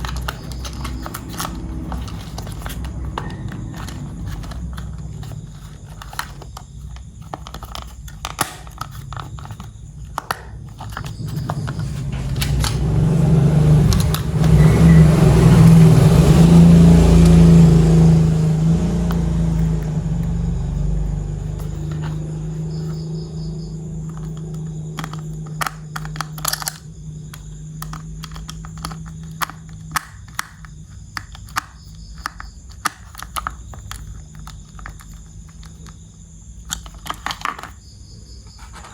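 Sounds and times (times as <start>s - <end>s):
small clicks and knocks: 0.0s - 13.0s, 18.7s - 37.8s
motor humming: 0.0s - 37.7s.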